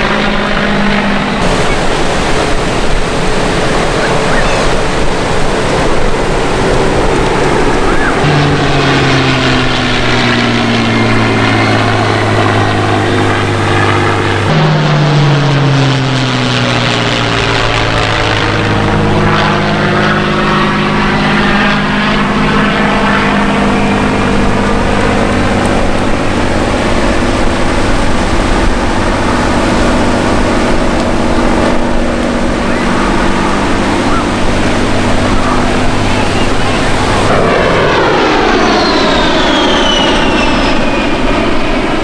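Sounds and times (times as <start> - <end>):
aircraft engine drone: 0.0 - 42.0.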